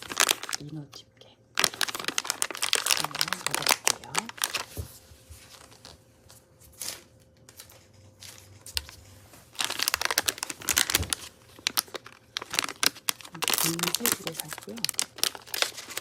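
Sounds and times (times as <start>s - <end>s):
packaging crinkling and rustling: 0.0s - 0.7s, 1.6s - 16.0s.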